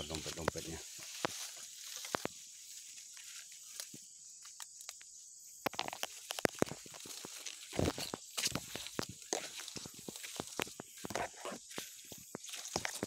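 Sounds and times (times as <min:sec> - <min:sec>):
footsteps through dry leaves: 0:00.0 - 0:04.0, 0:06.1 - 0:13.0
leaves brushing against body: 0:00.0 - 0:05.1, 0:05.8 - 0:13.0.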